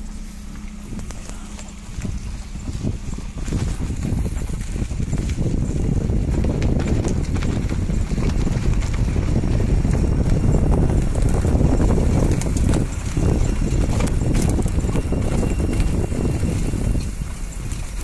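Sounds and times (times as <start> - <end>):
car knocks and rattles: 0.0 - 18.0
car tyres rumbling on dirt road: 0.0 - 18.0
wind buffeting microphone: 0.0 - 18.0.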